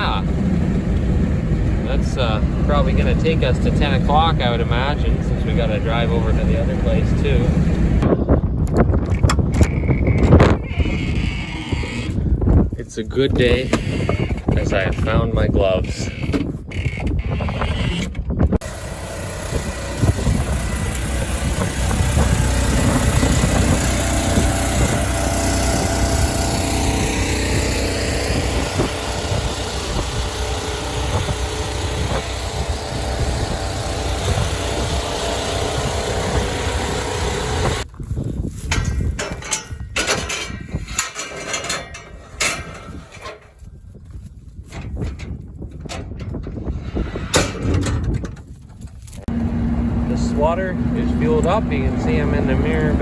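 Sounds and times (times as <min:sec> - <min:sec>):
engine running: 0:00.0 - 0:08.1, 0:17.9 - 0:53.0.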